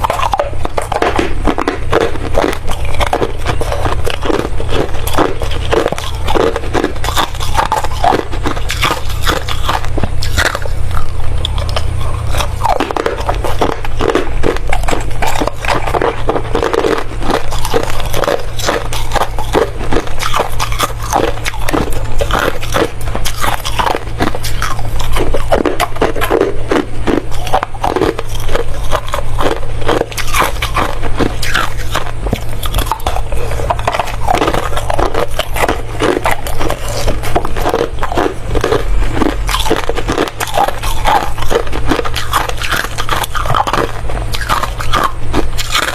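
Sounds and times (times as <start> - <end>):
chewing ice crunching: 0.0 - 45.9.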